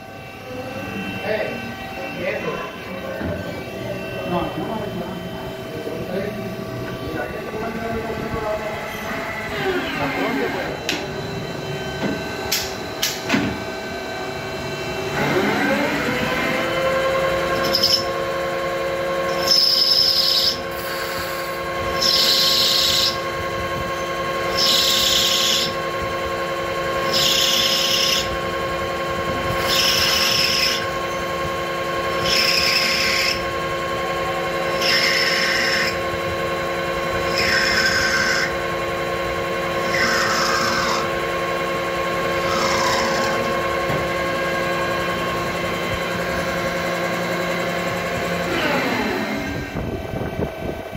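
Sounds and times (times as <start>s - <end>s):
lathe spindle whine: 0.0s - 50.9s.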